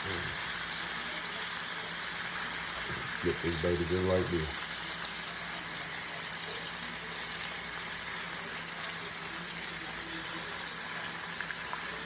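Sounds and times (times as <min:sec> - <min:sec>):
steaks sizzling in a hot pan: 0:00.0 - 0:12.0.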